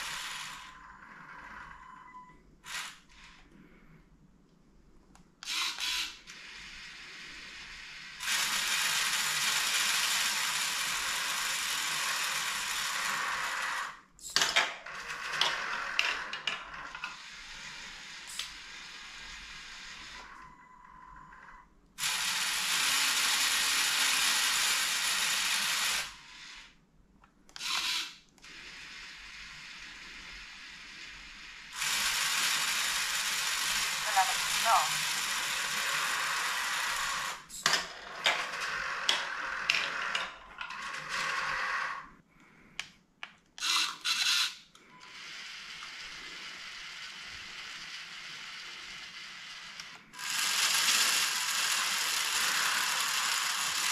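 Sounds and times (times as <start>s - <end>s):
toy motors and gears whirring: 0.0s - 3.6s, 5.4s - 26.8s, 27.5s - 42.2s, 42.8s - 53.9s.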